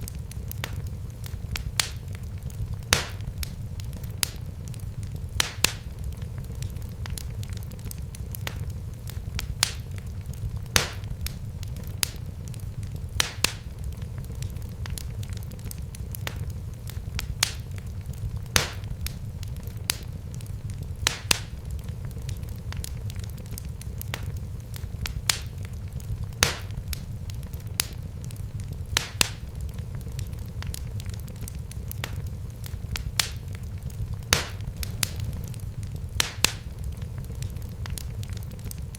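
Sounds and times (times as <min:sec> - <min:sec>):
fire crackling and popping: 0:00.0 - 0:38.9
low fire rumble: 0:00.0 - 0:38.9.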